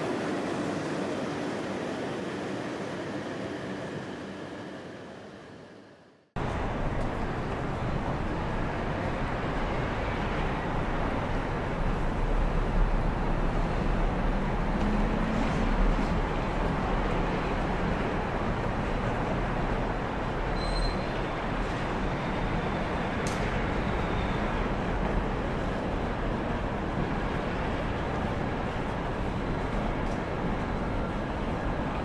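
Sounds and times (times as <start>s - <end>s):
high-speed train rumble: 0.0s - 32.0s.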